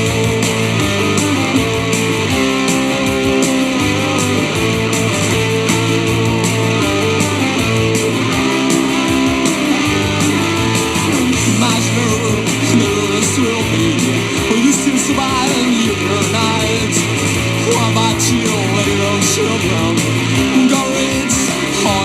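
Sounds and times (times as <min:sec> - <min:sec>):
electric guitar: 0:00.0 - 0:22.0
rock band playing: 0:00.0 - 0:22.0.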